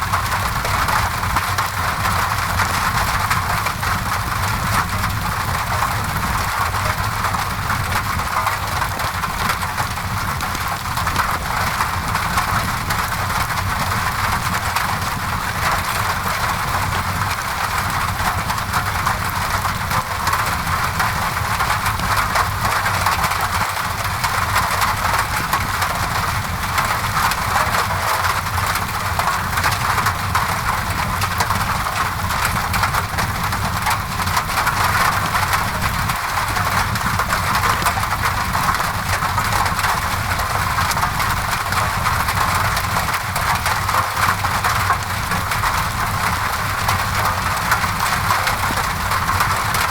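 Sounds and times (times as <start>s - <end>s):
constant low rumble: 0.0s - 49.9s
rain pattering on a window: 0.0s - 49.9s.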